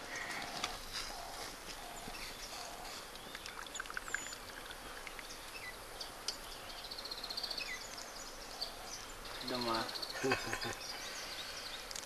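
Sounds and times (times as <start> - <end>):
birds chirping and whistling: 0.0 - 11.9
faint background noise: 0.0 - 12.0.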